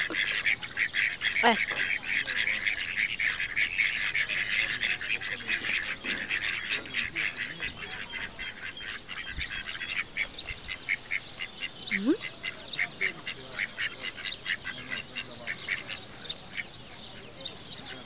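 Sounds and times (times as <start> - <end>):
ducks calling: 0.0 - 18.0.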